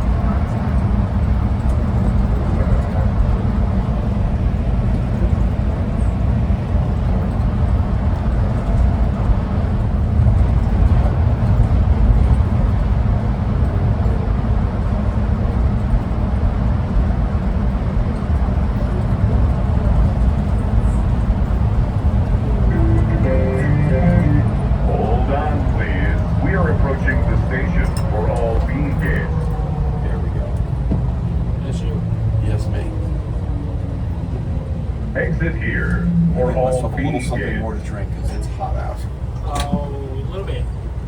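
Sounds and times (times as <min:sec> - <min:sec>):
train car rumbling: 0:00.0 - 0:41.0.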